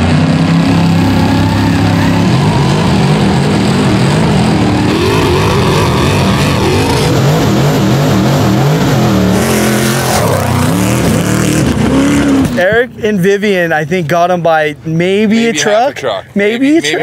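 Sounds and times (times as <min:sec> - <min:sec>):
race truck engines at full throttle: 0:00.0 - 0:17.0.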